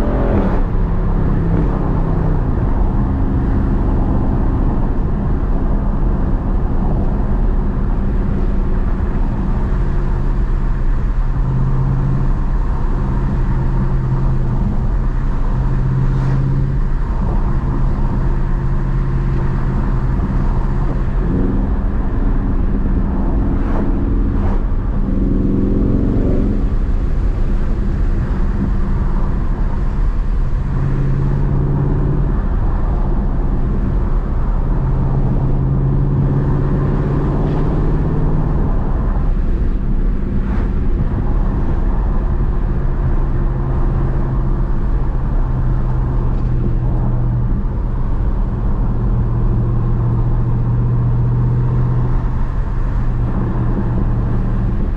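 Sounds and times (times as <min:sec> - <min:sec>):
car engine droning at cruise: 0:00.0 - 0:54.9.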